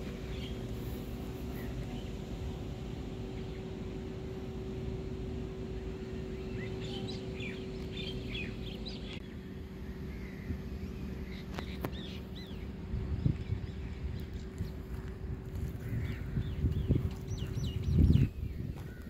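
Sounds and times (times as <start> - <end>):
small birds chirping: 0.0 - 4.2, 5.6 - 19.0
low outdoor rumble: 0.0 - 19.0.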